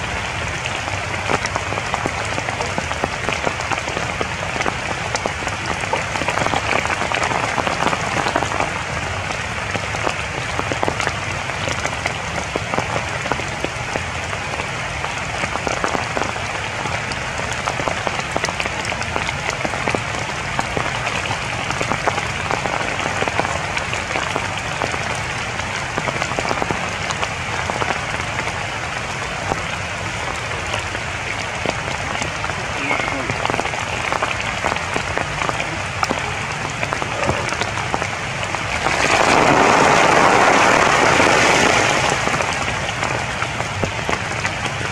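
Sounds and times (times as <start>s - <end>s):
rain falling on foliage: 0.0s - 44.9s.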